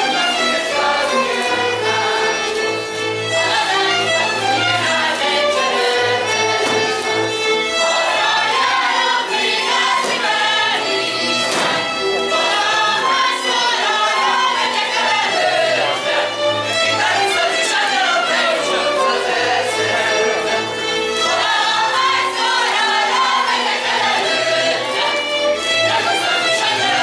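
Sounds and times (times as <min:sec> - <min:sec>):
folk string band playing: 0:00.0 - 0:27.0
group of voices singing: 0:00.0 - 0:27.0.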